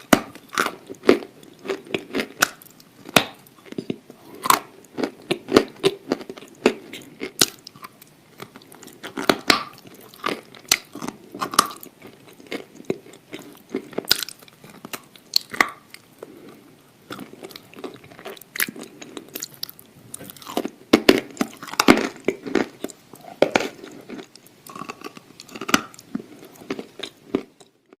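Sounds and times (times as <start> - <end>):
person chewing and crunching: 0.0 - 28.0.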